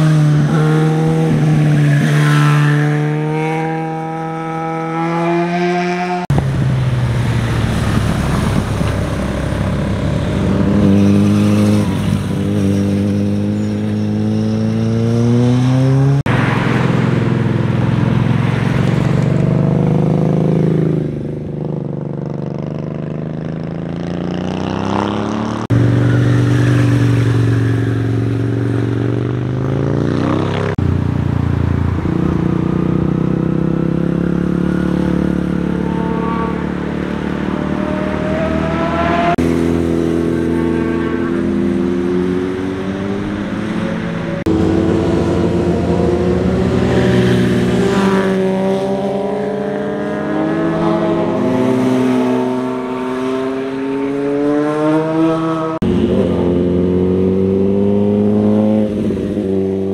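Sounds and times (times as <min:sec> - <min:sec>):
motorcycle engine revving past: 0:00.0 - 0:31.0, 0:31.7 - 0:59.9.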